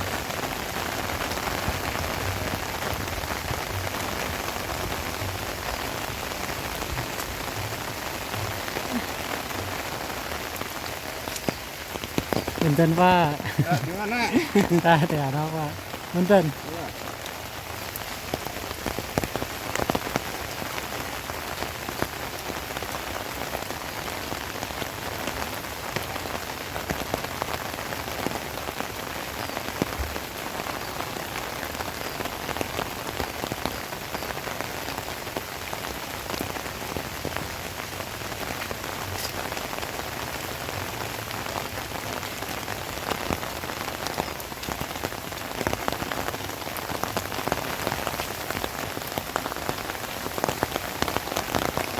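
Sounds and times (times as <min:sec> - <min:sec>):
heavy rain hiss: 0:00.0 - 0:51.9
raindrops tapping surfaces: 0:00.0 - 0:51.9.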